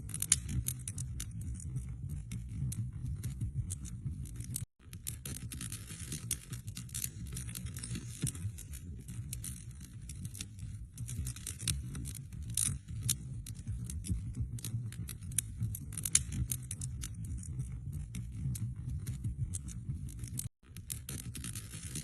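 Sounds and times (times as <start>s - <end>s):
low steady rumble: 0.0s - 4.6s, 5.2s - 22.0s
wood fire crackling: 0.0s - 22.0s.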